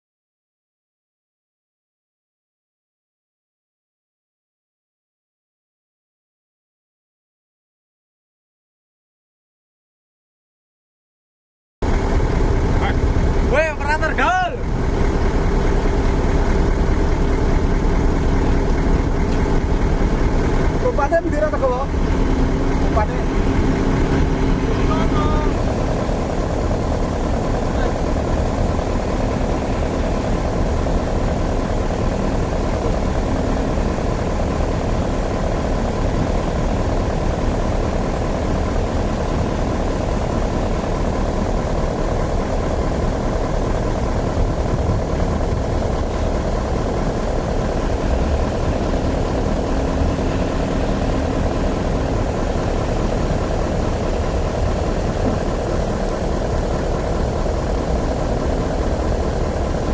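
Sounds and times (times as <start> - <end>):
diesel machine engine running: 11.8 - 59.9.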